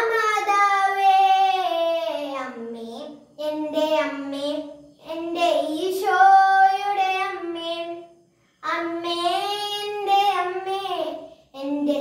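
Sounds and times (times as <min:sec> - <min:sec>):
boy singing unaccompanied: 0:00.0 - 0:12.0.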